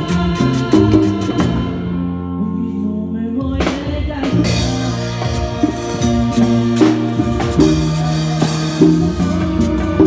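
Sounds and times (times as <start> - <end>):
live cumbia band playing: 0.0 - 10.0.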